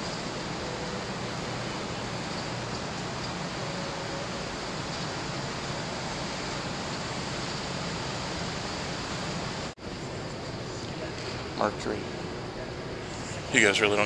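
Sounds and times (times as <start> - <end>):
hiss-like hubbub: 0.0 - 14.0.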